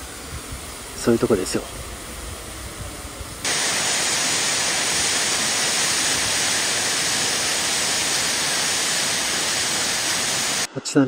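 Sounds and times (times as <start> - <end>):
rushing water hiss: 0.0 - 10.7.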